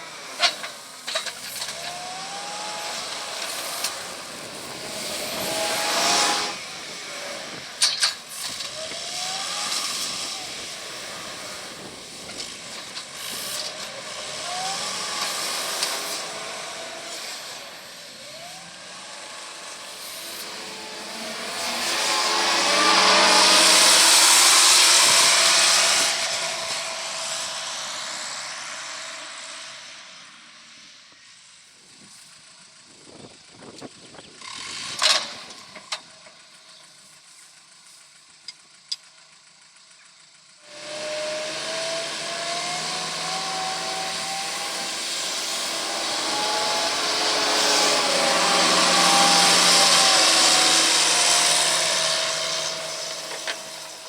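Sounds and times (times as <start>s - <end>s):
tractor passing: 0.0s - 54.0s
machine whine: 1.2s - 31.3s, 40.7s - 54.0s.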